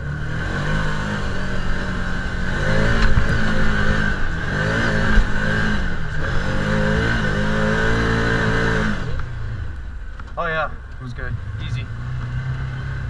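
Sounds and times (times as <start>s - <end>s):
utility vehicle engine revving: 0.0s - 13.0s.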